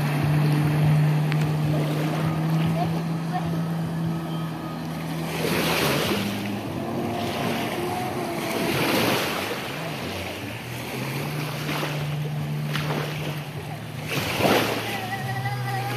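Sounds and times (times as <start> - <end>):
splash: 0.0 - 3.4, 4.8 - 15.9
jet ski engine hum: 0.0 - 15.9
rushing water: 0.0 - 15.9.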